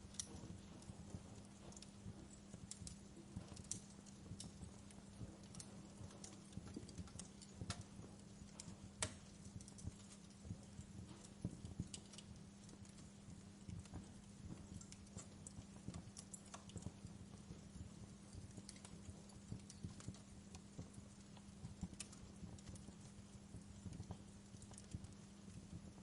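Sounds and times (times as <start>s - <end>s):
steady low hum: 0.0s - 26.0s
wood fire crackling: 0.0s - 26.0s.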